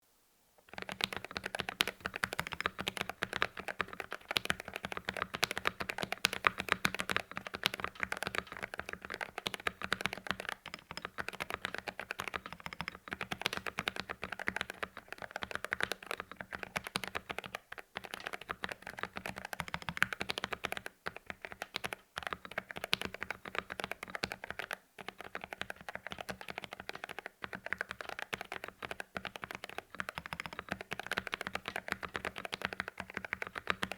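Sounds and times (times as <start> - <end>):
fast typing on mechanical keyboard: 0.7 - 33.9.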